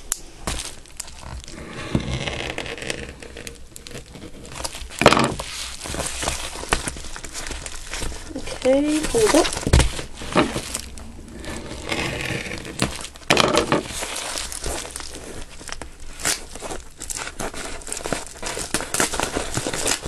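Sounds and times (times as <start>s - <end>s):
paper envelope crinkling: 0.0s - 20.0s.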